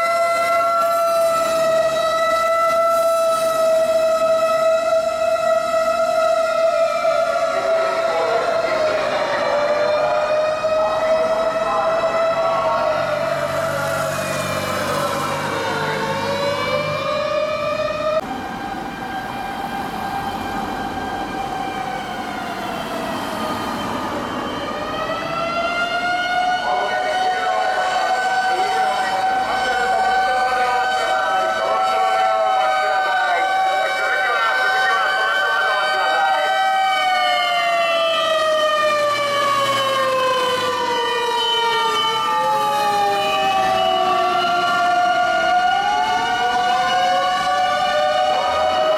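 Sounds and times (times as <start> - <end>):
fire engine siren wailing: 0.0 - 48.9.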